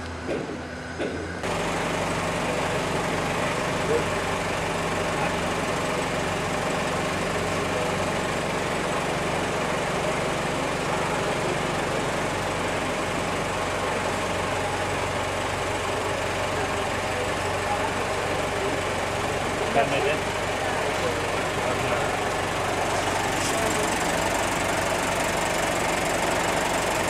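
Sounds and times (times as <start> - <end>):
mechanical hum: 0.0 - 27.0.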